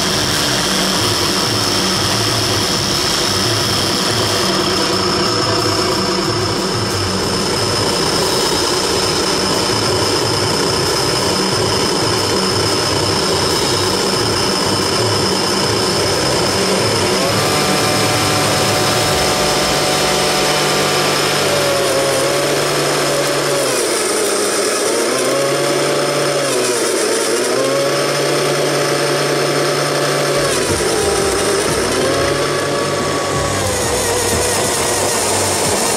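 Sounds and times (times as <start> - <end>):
snow blower motor whining: 0.0 - 35.9.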